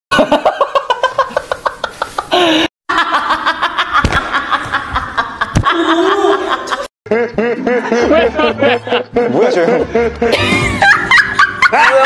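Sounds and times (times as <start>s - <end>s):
man laughing hard: 2.3s - 12.0s.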